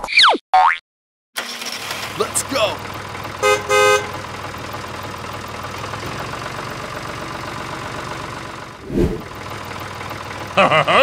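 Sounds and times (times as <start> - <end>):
tractor engine idling: 1.4 - 11.0.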